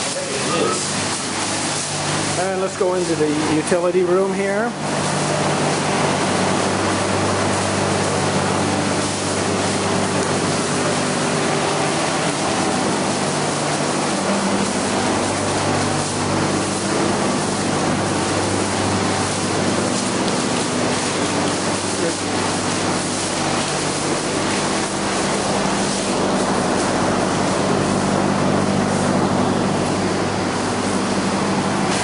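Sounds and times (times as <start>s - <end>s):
low machinery hum: 0.0s - 32.0s.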